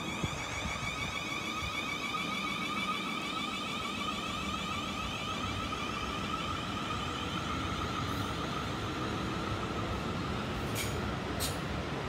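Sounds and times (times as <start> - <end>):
electric train motor whine: 0.0 - 12.0
wheels rumbling on rail: 0.0 - 12.0.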